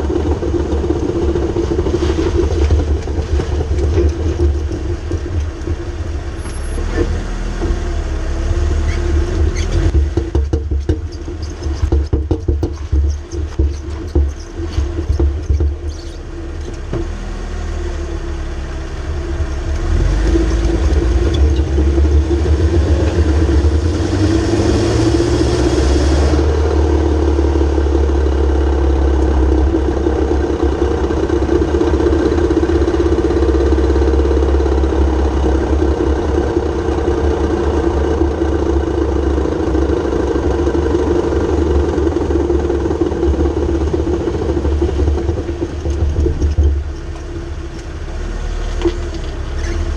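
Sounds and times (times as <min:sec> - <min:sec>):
car drivetrain drone: 0:00.0 - 0:49.9.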